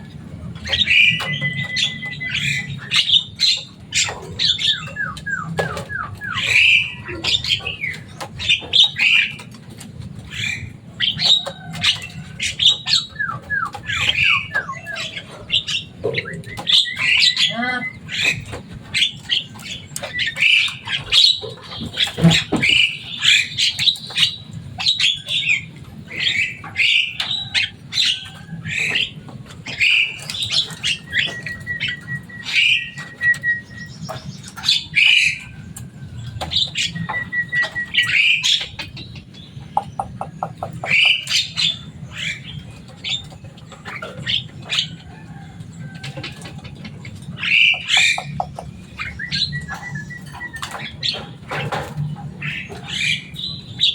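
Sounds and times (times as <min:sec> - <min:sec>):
bird harsh chattering calls: 0:00.0 - 0:35.6, 0:36.3 - 0:53.9.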